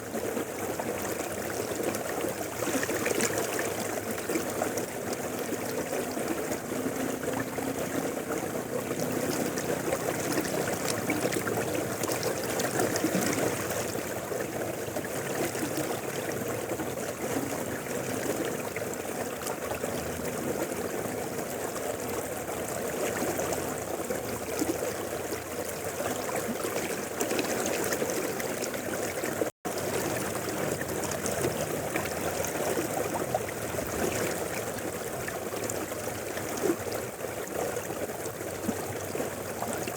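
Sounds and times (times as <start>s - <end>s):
river rushing and babbling: 0.0s - 39.9s.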